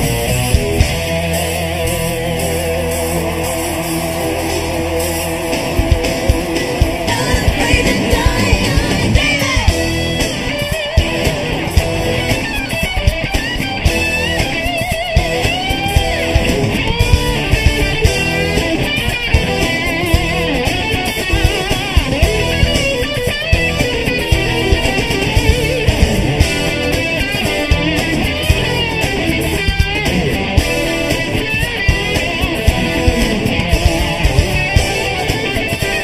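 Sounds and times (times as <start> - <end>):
electric guitar lead line: 0.0 - 36.0
live rock band playing: 0.0 - 36.0.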